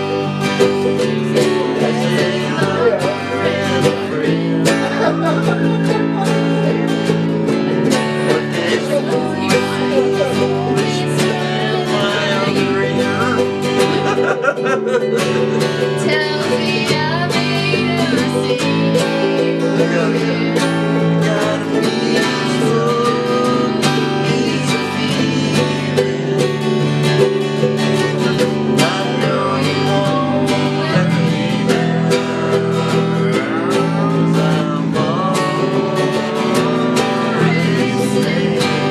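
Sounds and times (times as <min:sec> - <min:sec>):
acoustic guitars playing country tune: 0:00.0 - 0:38.9.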